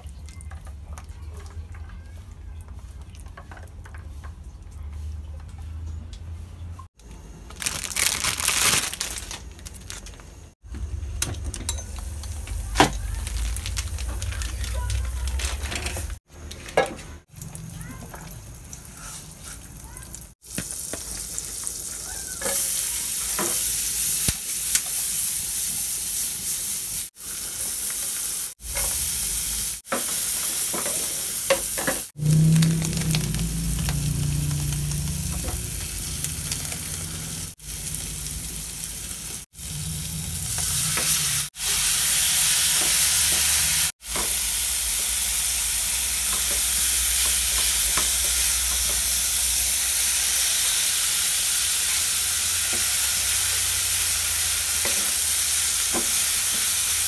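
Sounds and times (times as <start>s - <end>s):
onions sizzling in frying pan: 7.6s - 10.1s, 11.8s - 57.0s.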